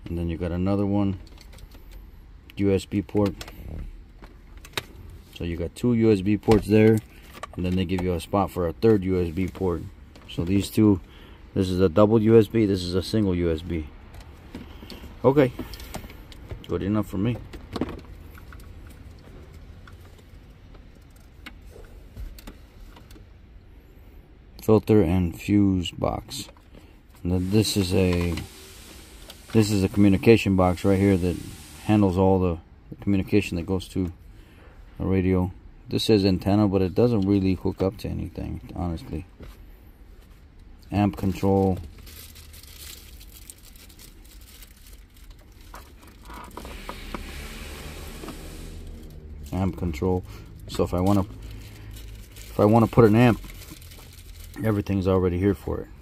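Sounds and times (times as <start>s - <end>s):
low steady rumble: 0.0s - 56.0s.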